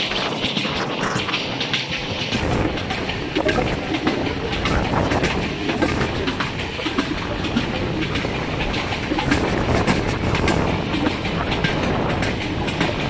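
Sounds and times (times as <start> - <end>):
train rumble: 0.0 - 13.0
train wheels clattering over rail joints: 0.0 - 13.0.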